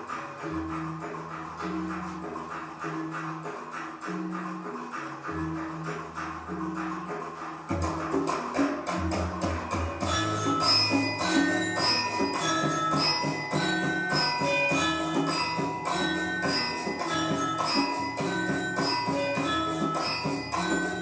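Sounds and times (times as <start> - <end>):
percussion beat: 0.0 - 21.0
ringing pitched melody: 0.0 - 21.0.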